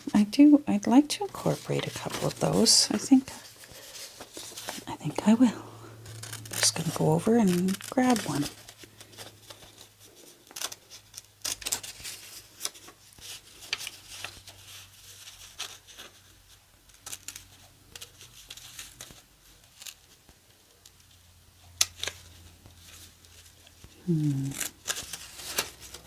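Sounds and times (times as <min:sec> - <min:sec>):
paper rustling: 0:00.0 - 0:21.0, 0:21.9 - 0:26.0.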